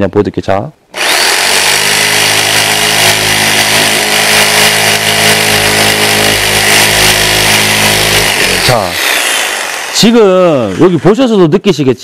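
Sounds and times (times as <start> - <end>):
electric jigsaw running: 0.9 - 11.2
saw blade scraping board: 1.0 - 11.1.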